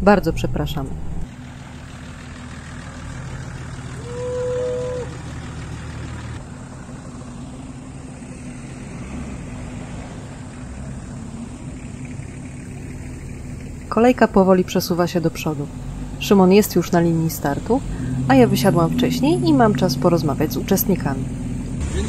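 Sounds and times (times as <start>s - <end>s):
off-road vehicle engines running: 0.0s - 22.0s.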